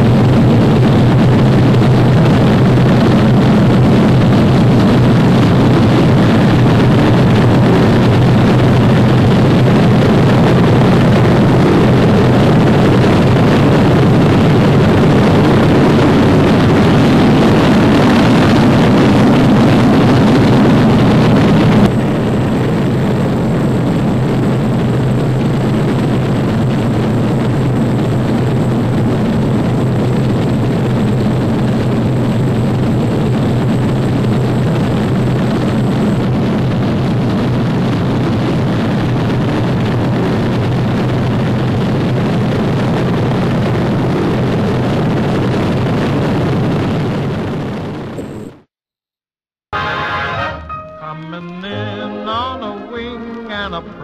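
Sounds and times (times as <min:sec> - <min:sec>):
propeller aircraft engines droning: 0:00.0 - 0:45.8.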